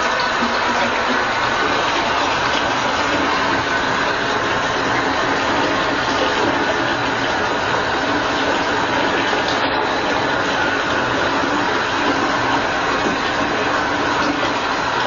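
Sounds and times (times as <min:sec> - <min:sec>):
water running into bathtub: 0:00.0 - 0:15.0.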